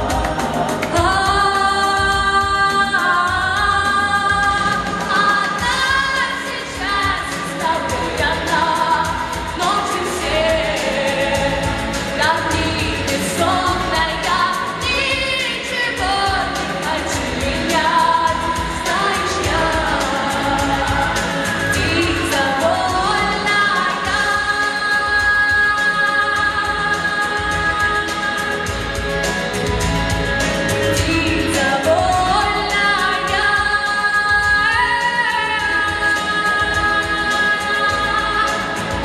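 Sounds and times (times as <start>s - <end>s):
instrumental backing track: 0.0s - 39.0s
woman singing pop song: 0.0s - 39.0s.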